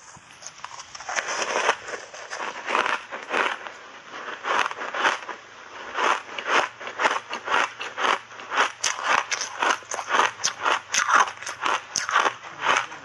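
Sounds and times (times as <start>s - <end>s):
ice being chewed with crunches: 0.0s - 13.0s.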